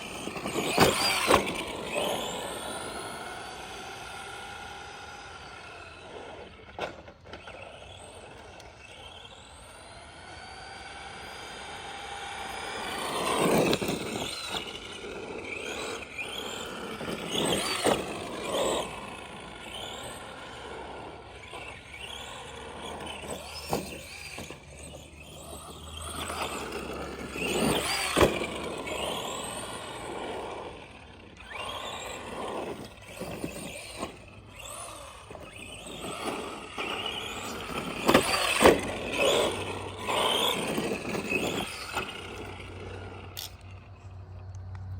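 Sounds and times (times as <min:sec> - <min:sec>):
electric motor whining: 0:00.0 - 0:44.9.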